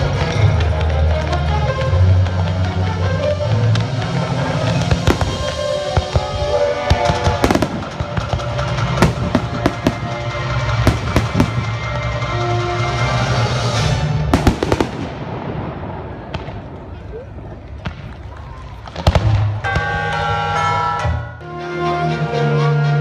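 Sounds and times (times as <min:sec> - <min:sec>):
fireworks bangs and crackles: 0:00.0 - 0:21.3
music playing: 0:00.0 - 0:23.0.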